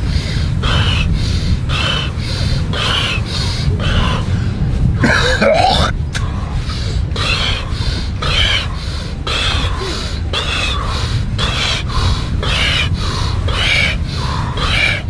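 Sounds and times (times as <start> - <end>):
deep rhythmic breathing: 0.0 - 15.0
low rumble: 0.0 - 15.0.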